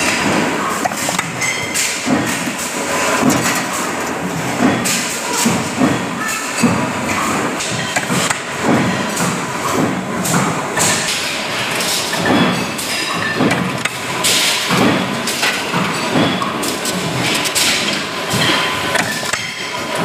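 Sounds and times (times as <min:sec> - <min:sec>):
machinery running: 0:00.0 - 0:20.0.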